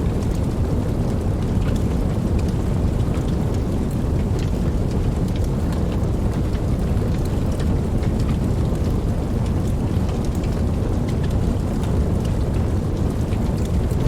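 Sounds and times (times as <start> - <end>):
raindrops ticking: 0.0 - 14.0
steady rain rushing: 0.0 - 14.0.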